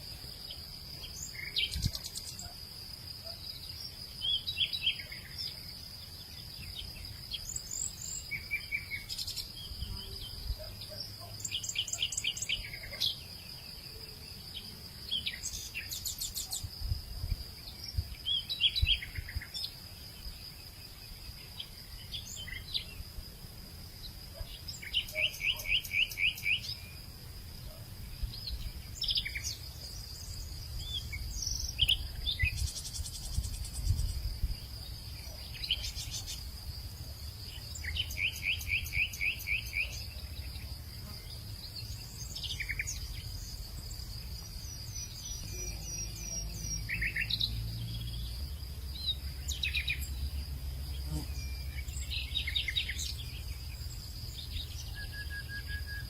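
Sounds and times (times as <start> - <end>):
birds chirping and trilling: 0.3 - 17.0, 24.0 - 56.0.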